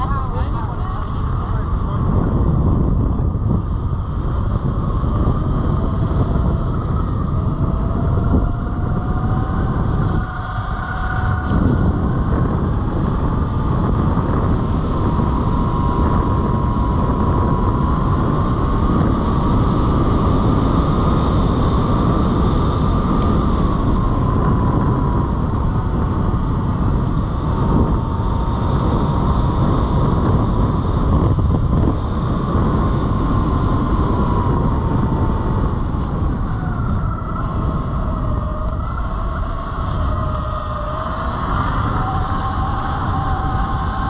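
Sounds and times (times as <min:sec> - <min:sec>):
electric motor whine: 0:00.0 - 0:44.0
wind rumble on microphone: 0:00.0 - 0:44.0.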